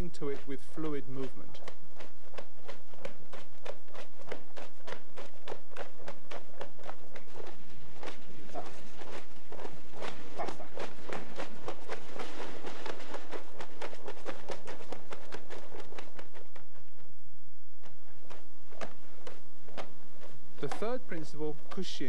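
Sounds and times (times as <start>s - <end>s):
rapid light taps: 0.0s - 17.1s, 17.8s - 21.8s.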